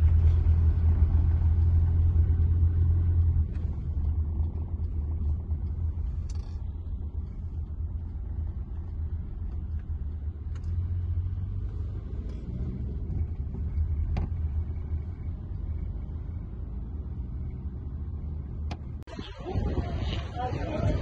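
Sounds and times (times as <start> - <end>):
car driving rumble from inside: 0.0 - 21.0.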